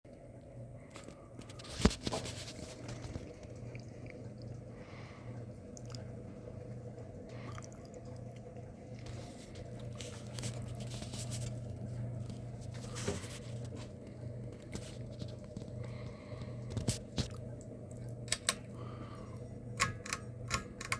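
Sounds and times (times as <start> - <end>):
ceiling fan motor humming: 0.1 - 20.9
light clicks and crackles: 0.8 - 4.6, 7.2 - 20.9.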